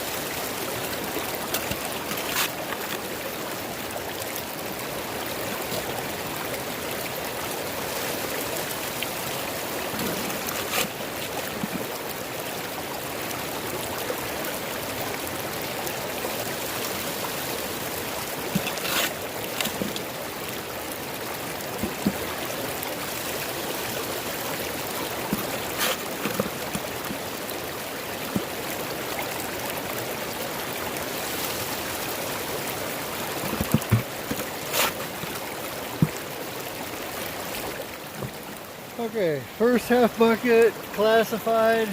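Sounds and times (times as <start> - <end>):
river running over rocks: 0.0 - 41.9.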